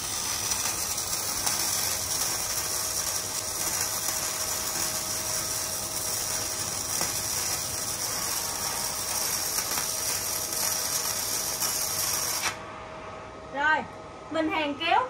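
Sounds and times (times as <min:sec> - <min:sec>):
welding arc crackling: 0:00.0 - 0:12.6.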